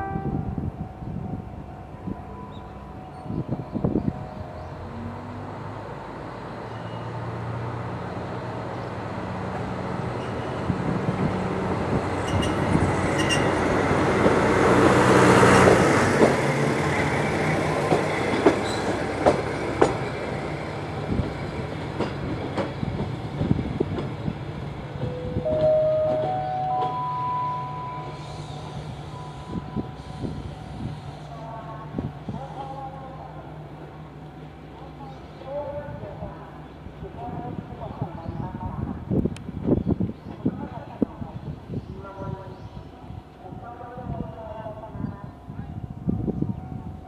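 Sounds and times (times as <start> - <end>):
diesel railcar engine drone: 0.0 - 47.0.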